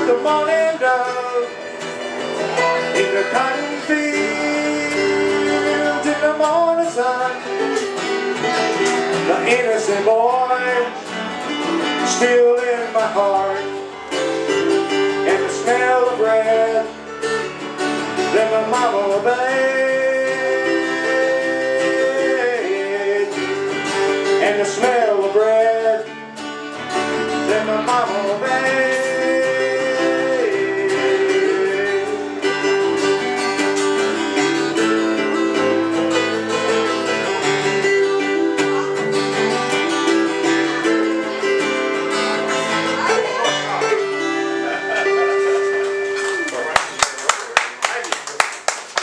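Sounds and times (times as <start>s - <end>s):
electric keyboard: 0.0s - 46.8s
acoustic guitars strumming: 0.0s - 49.0s.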